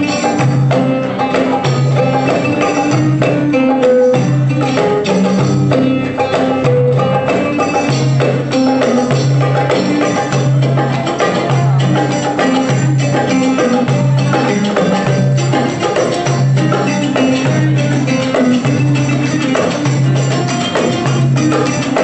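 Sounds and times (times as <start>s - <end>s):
live band playing belly-dance music: 0.0s - 22.0s.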